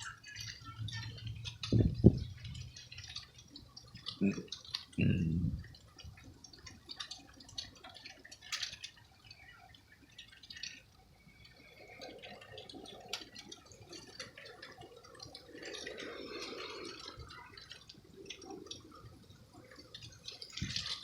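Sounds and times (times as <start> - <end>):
water dripping and ticking: 0.0 - 21.0.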